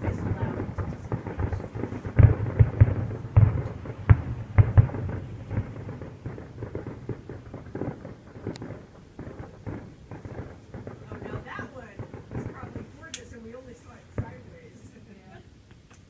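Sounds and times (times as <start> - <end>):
fireworks booming: 0.0 - 15.9
fireworks popping and crackling: 0.0 - 16.0.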